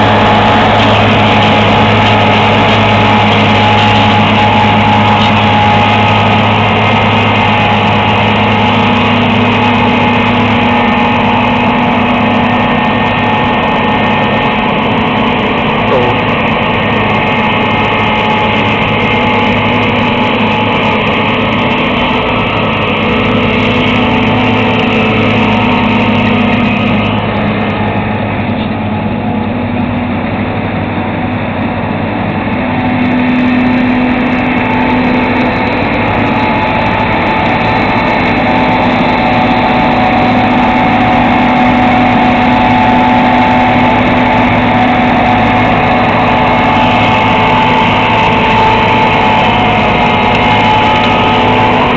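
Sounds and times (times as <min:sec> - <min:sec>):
combine harvester drone: 0:00.0 - 0:51.9.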